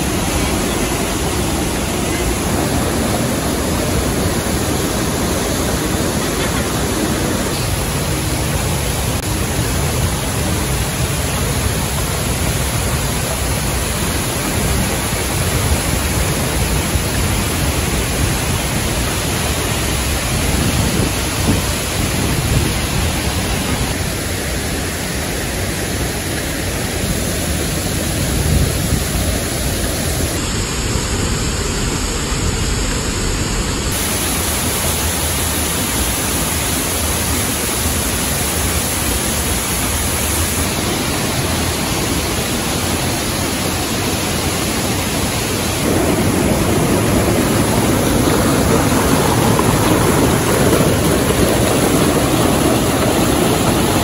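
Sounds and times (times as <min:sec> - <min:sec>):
river rapids over boulders: 0:00.0 - 0:30.4, 0:33.9 - 0:54.0
waterfalls rushing: 0:00.0 - 0:31.0, 0:31.7 - 0:54.0.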